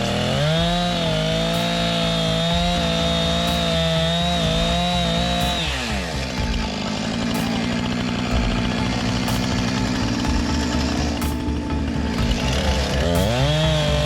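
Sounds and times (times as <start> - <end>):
chainsaw revving and cutting: 0.0 - 14.0.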